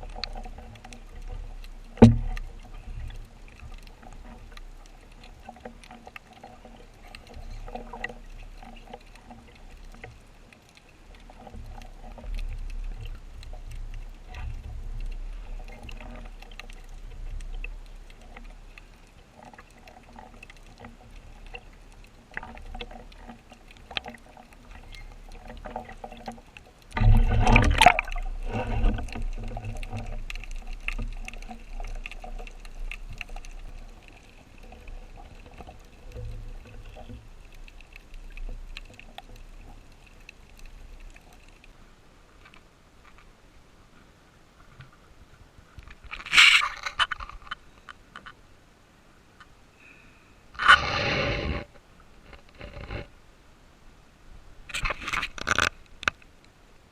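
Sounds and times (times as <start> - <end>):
water swirling and sloshing: 0.0 - 49.6, 50.5 - 56.9.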